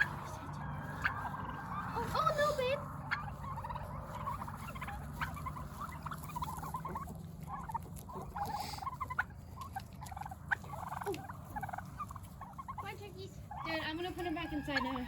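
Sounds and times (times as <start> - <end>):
turkeys calling: 0.0 - 15.0.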